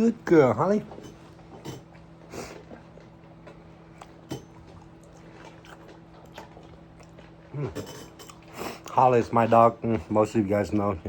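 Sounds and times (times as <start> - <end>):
soft chewing and mouth noises: 0.9 - 10.1.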